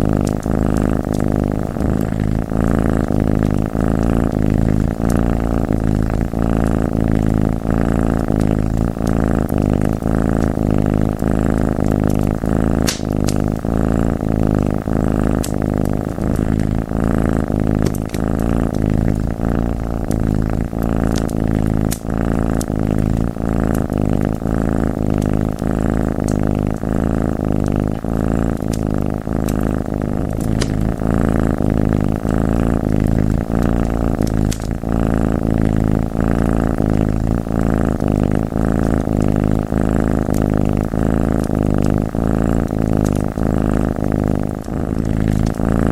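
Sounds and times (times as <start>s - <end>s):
cat purring: 0.0s - 45.9s
wood fire crackling and popping: 0.0s - 45.9s.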